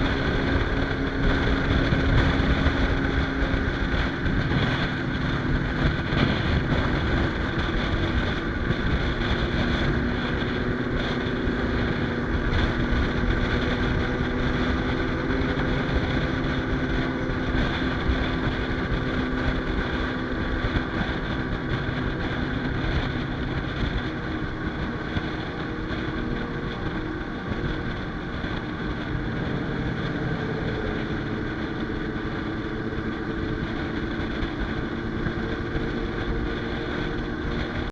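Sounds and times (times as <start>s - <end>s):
motorcycle engine cruising: 0.0s - 37.9s
wind rushing over microphone: 0.0s - 37.9s.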